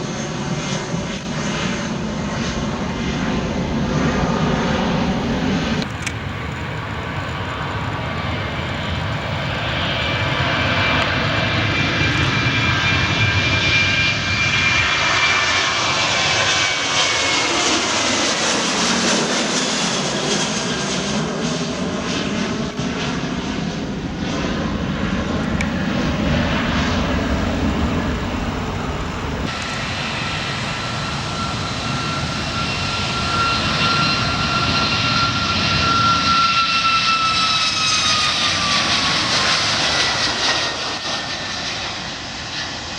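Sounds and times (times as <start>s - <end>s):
jet airliner passing with whine: 0.0s - 42.9s.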